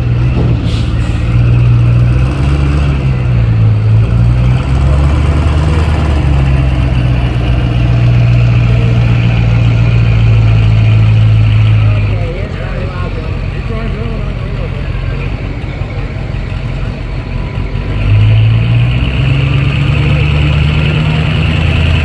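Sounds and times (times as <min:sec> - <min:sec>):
truck engine running hard: 0:00.0 - 0:22.0.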